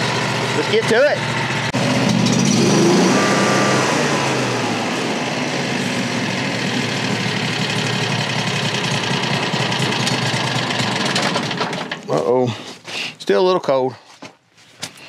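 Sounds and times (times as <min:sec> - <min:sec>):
sawmill engine running: 0:00.0 - 0:12.2.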